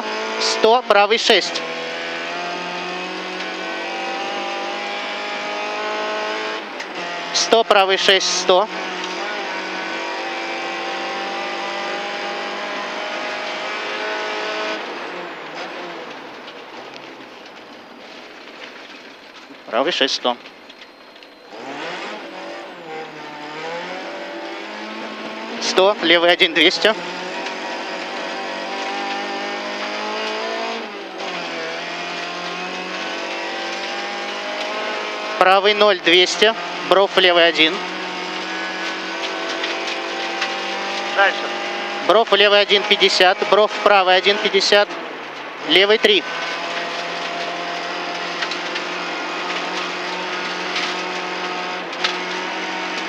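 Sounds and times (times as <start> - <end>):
rally car engine at full throttle: 0.0 - 53.0
road noise: 0.0 - 53.0.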